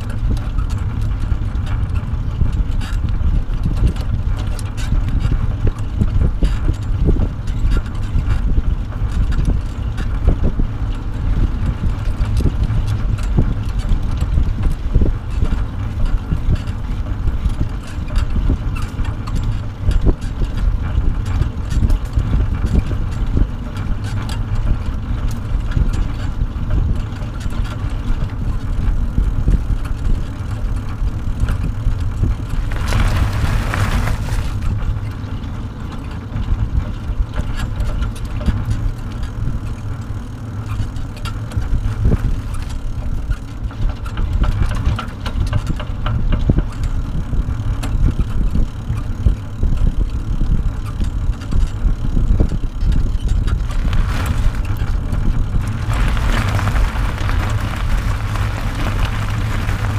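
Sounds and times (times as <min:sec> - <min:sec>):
trailer rolling and rattling: 0:00.0 - 0:59.9
wind rumbling on microphone: 0:00.0 - 0:59.9.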